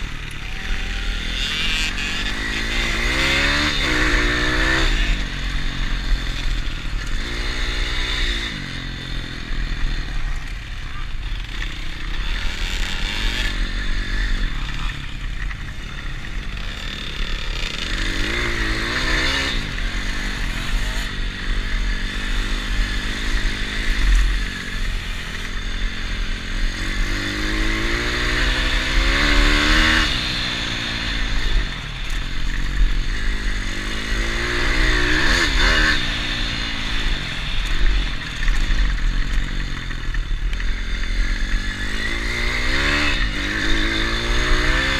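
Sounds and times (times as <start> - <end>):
pit bike engine revving: 0.0 - 44.9.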